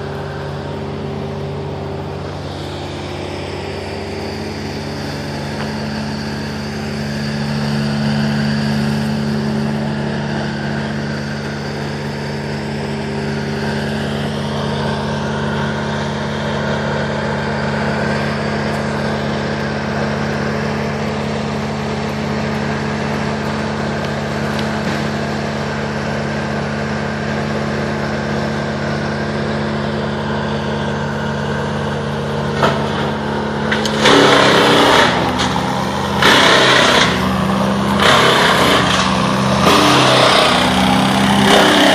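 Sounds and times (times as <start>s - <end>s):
large engine running: 0.0s - 41.9s
loud rough noise: 0.0s - 41.9s.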